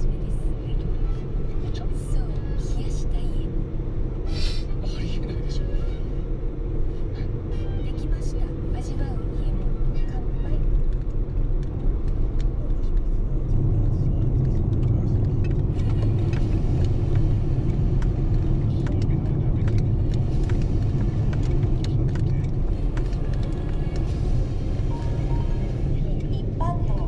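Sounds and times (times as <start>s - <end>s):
road and engine rumble: 0.0s - 27.0s.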